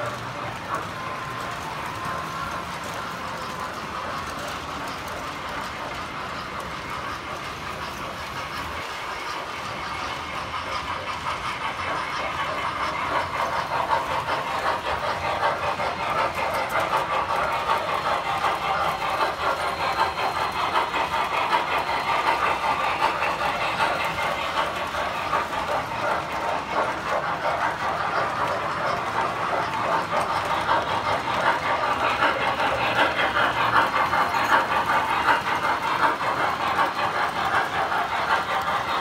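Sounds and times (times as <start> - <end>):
toy train wheels clattering on track: 0.0 - 39.0.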